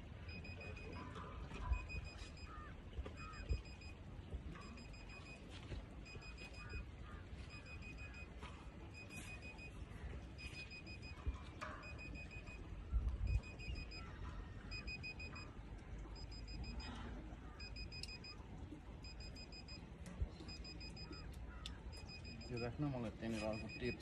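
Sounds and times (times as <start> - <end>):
rapid high beeping pips: 0.0 - 18.4, 19.0 - 24.0.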